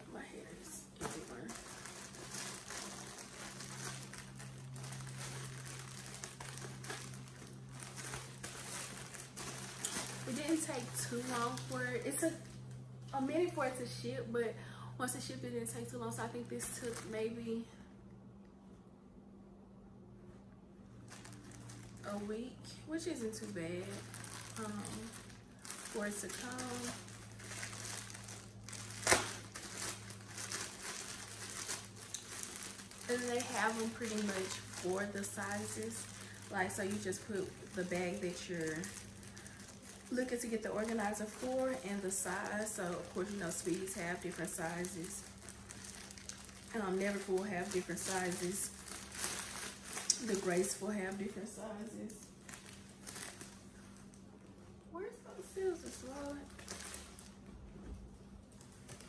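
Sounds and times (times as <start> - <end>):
packaging crinkling: 0.9 - 12.8, 16.6 - 17.2, 21.0 - 54.8, 55.5 - 57.6, 58.3 - 59.0.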